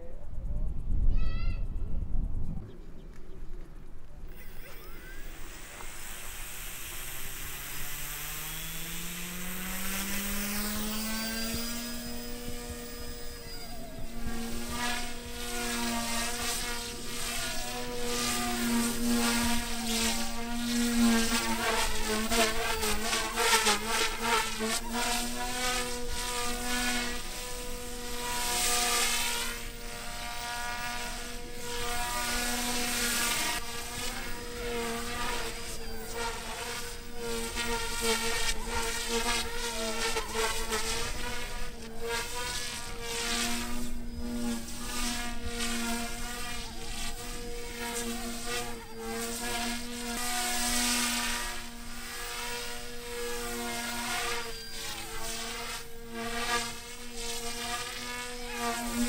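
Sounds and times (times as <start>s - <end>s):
electric rc helicopter: 3.1s - 59.0s.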